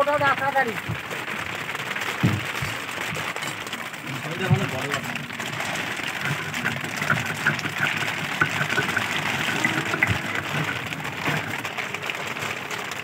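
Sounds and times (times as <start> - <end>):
rain drips ticking on wood: 0.0 - 13.0
rain hissing on water: 0.0 - 13.0.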